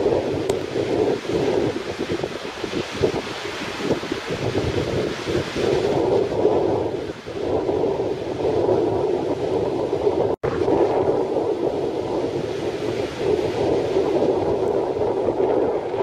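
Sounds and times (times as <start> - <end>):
strong wind on microphone: 0.0 - 16.0
surf breaking on shore: 0.0 - 16.0.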